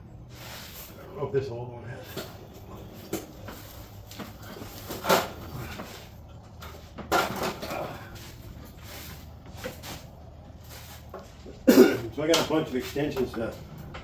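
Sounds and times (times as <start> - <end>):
metal tools clunking: 2.0 - 14.0.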